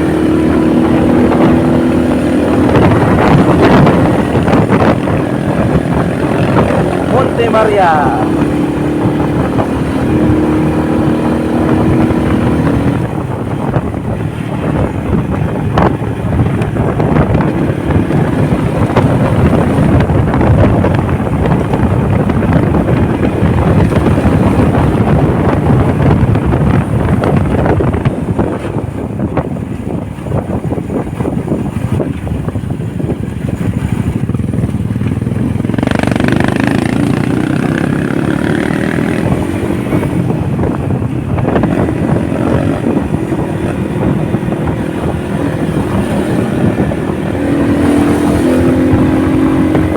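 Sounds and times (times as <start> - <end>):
motorcycle engine drone: 0.0 - 49.9
wind buffeting microphone: 0.0 - 49.9.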